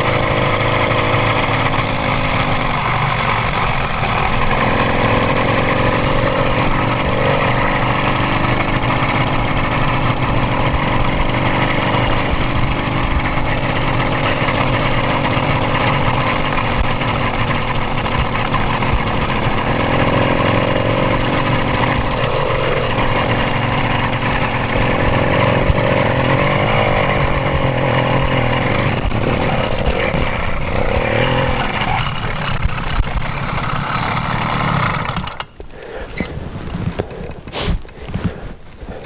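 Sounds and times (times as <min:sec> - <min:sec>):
two-stroke bicycle engine running: 0:00.0 - 0:39.0.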